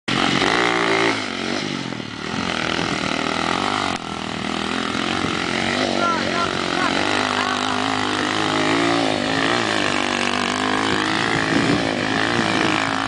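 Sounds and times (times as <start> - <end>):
quad bike engine revving: 0.1 - 13.0.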